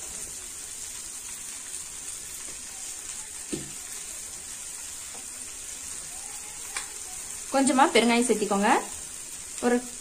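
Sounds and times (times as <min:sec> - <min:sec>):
frying sizzle: 0:00.0 - 0:10.0.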